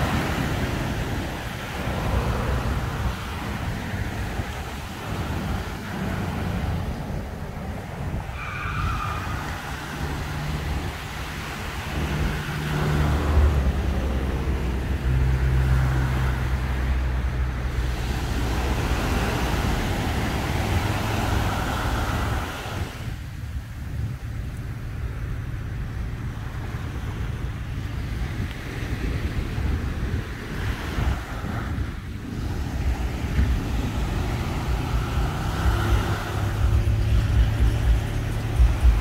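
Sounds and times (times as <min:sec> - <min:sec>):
car engine hum: 0:00.0 - 0:39.0
small waves breaking: 0:00.0 - 0:39.0.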